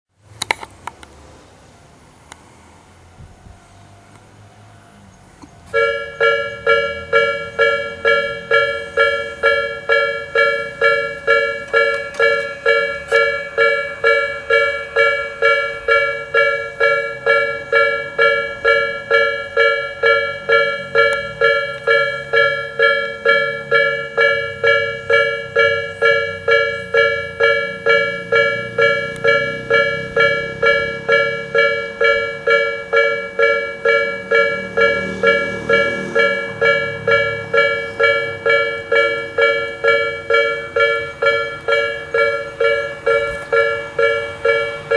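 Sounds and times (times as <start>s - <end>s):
level crossing warning bell: 4.0s - 44.9s.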